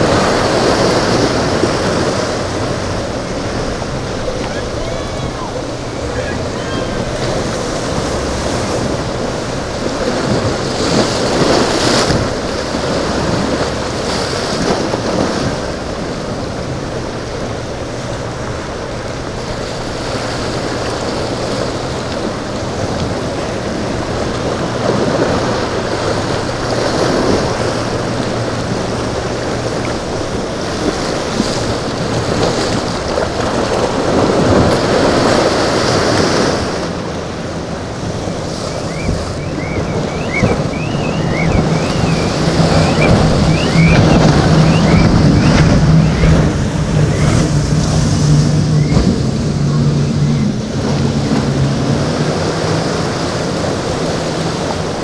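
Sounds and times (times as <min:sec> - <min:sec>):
boat engines droning: 0:00.0 - 0:55.0
surf breaking: 0:00.0 - 0:55.0
wind buffeting microphone: 0:00.0 - 0:55.0.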